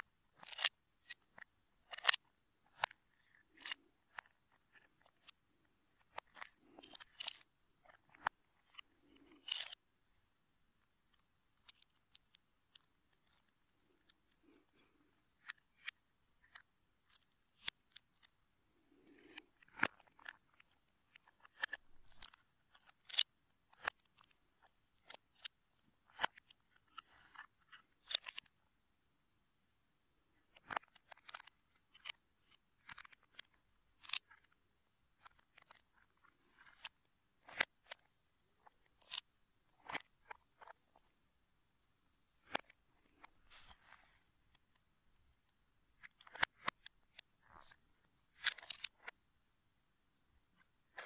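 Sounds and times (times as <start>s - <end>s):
plastic bricks clicking and rattling: 0.3s - 9.8s, 10.8s - 18.3s, 18.9s - 25.5s, 26.1s - 28.6s, 30.4s - 34.6s, 35.2s - 41.1s, 42.4s - 44.8s, 46.0s - 49.2s.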